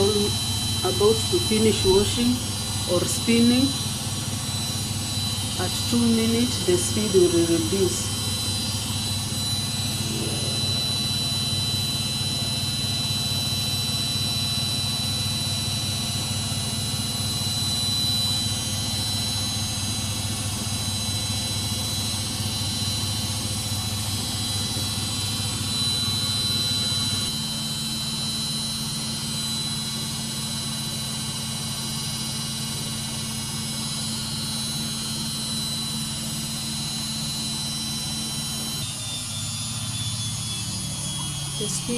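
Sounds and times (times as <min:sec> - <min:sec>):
washing machine spinning: 0:00.0 - 0:41.9.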